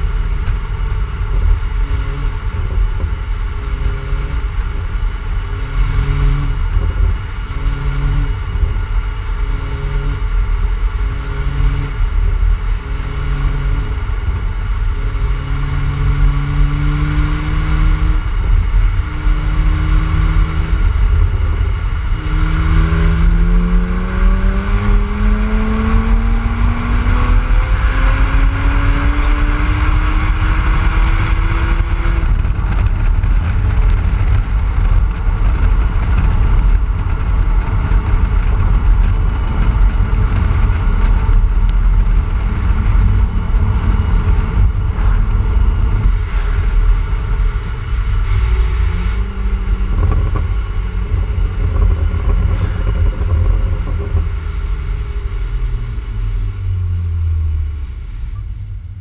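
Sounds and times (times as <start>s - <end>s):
car engine exhaust note: 0.0s - 59.0s
wind rumble on microphone: 0.0s - 59.0s.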